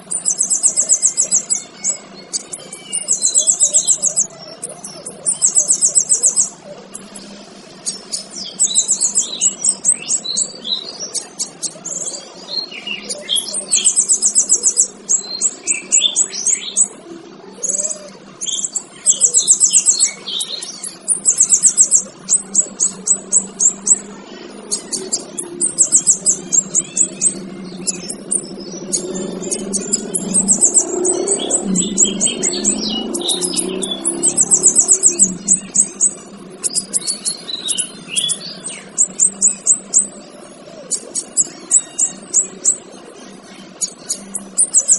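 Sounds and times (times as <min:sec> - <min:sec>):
bird buzzy trills: 0:00.0 - 0:44.9
bird chirping: 0:00.0 - 0:44.9.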